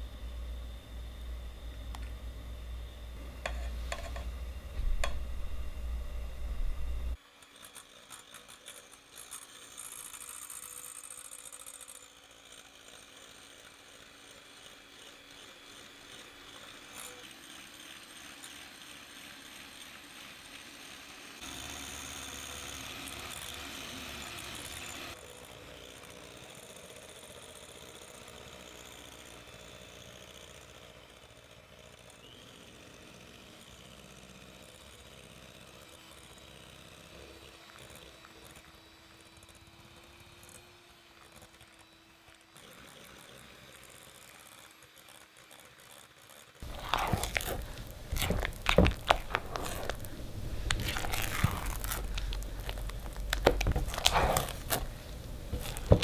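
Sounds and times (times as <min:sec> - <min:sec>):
electric hand mixer running: 0:00.0 - 0:56.0.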